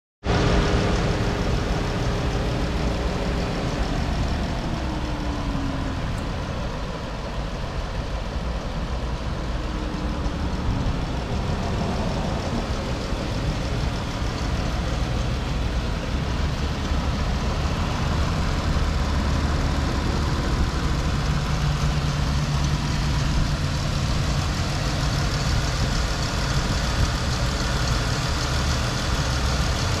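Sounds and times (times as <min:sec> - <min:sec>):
car engine running: 0:00.2 - 0:30.0.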